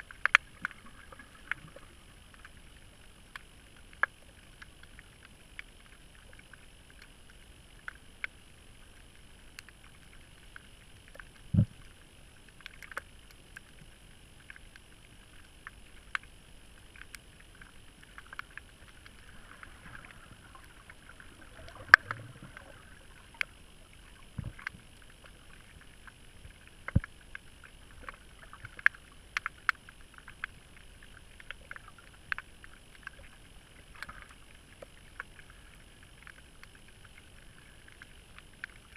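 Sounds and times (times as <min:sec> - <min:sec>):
muffled underwater hiss: 0:00.0 - 0:38.9.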